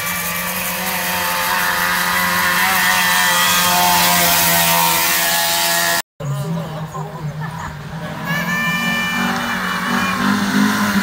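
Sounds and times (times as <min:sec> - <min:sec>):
engine running at high pitch: 0:00.0 - 0:06.6, 0:07.9 - 0:11.0.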